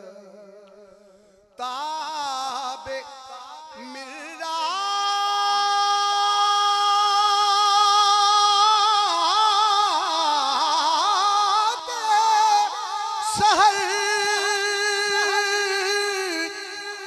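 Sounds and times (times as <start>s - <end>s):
man singing unaccompanied: 1.6s - 17.0s.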